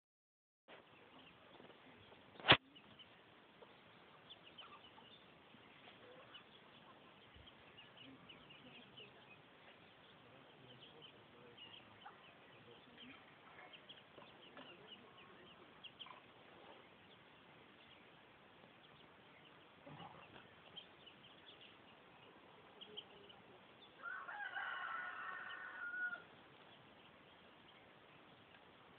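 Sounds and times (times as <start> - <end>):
ducklings peeping: 0.8 - 28.9.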